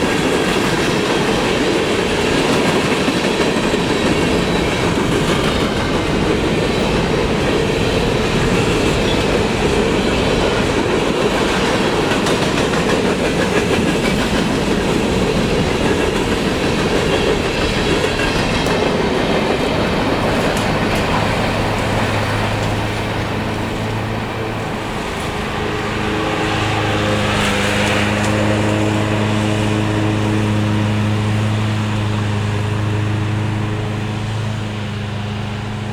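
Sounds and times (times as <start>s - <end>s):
train wheels clattering on rails: 0.0s - 35.9s.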